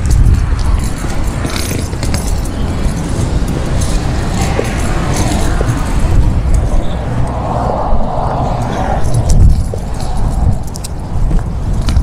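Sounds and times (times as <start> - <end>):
light clinks and ticks: 0.0 - 6.9, 8.6 - 12.0
cars passing: 0.0 - 12.0
continuous low rumble: 0.0 - 12.0.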